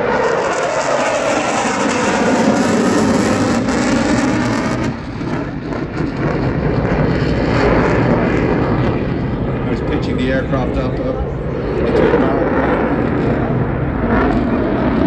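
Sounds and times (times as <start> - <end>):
fighter jet afterburner roar: 0.0 - 15.0.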